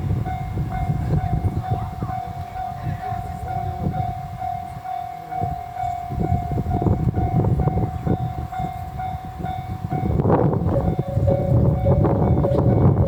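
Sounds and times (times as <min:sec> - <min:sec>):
level crossing alarm ringing: 0:00.0 - 0:13.0.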